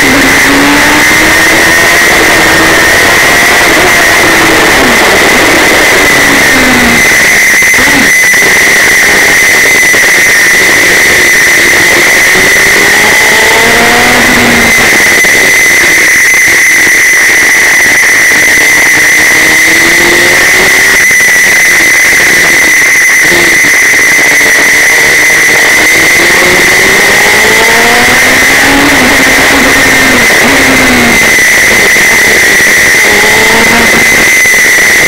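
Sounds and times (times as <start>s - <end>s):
loud rushing noise: 0.0s - 35.0s
motorcycle engine accelerating: 0.0s - 35.0s.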